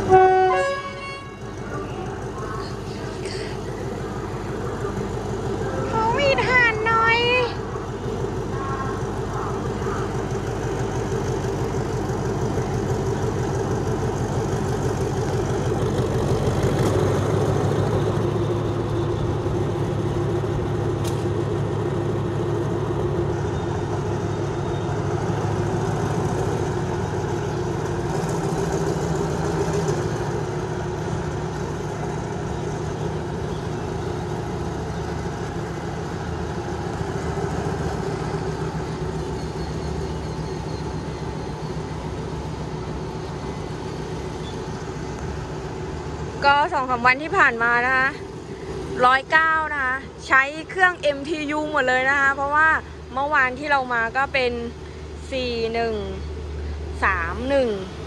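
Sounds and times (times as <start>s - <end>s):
diesel locomotive engine idling: 0.0s - 58.0s.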